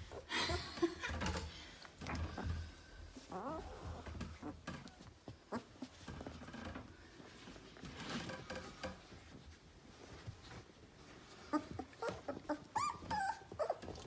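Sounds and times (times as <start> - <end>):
puppies rustling on bedding: 0.0 - 14.0.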